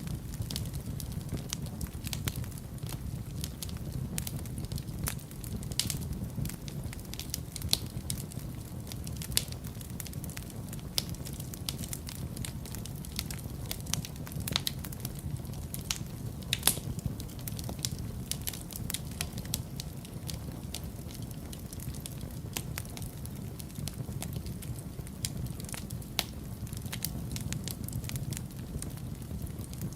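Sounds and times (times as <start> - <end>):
fire crackling and popping: 0.0 - 29.9
low rumble of flames: 0.0 - 29.9.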